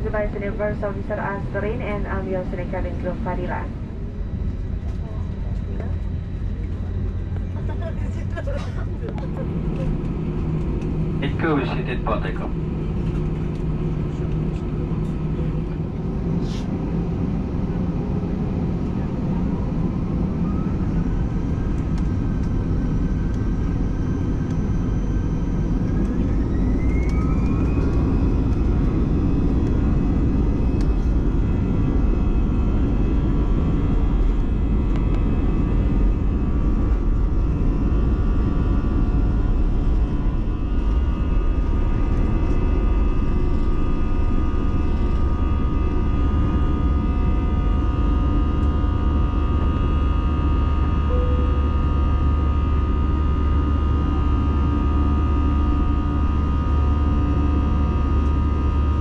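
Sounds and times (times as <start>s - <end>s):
deep engine rumble: 0.0s - 59.0s
jet engine whine: 0.0s - 59.0s.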